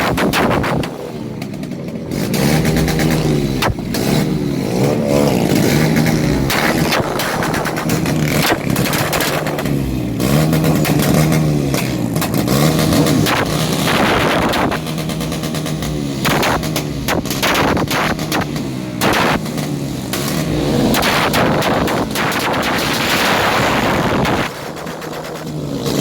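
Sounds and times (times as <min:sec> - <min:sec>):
exhaust pops: 0:00.0 - 0:26.0
motorcycle engine revving: 0:00.0 - 0:26.0.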